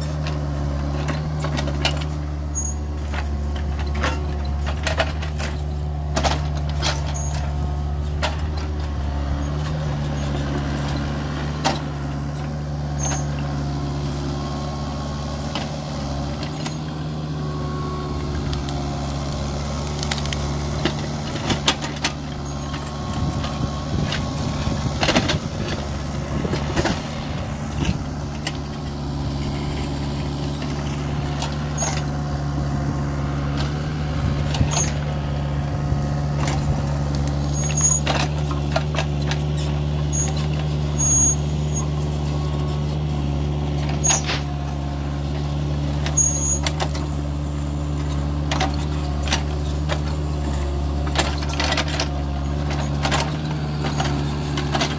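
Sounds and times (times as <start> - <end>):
diesel engine running: 0.0 - 54.9
excavator rake knocks and clanks: 0.0 - 54.9.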